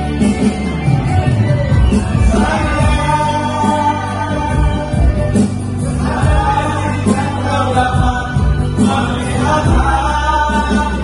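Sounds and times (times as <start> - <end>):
steady bass line: 0.0 - 11.0
men singing together: 2.1 - 11.0.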